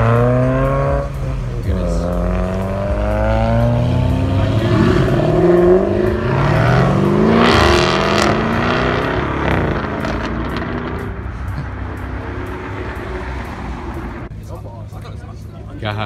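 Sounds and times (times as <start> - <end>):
sports cars accelerating: 0.0 - 14.4.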